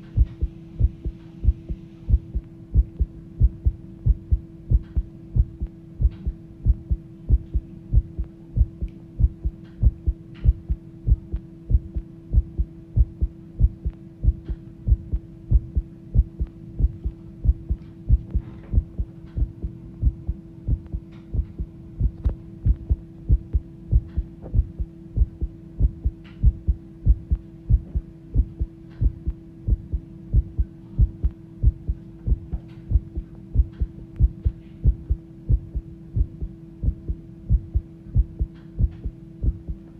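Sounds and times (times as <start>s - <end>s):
steady low hum: 0.0s - 39.9s
fast heartbeat thuds: 0.2s - 39.8s.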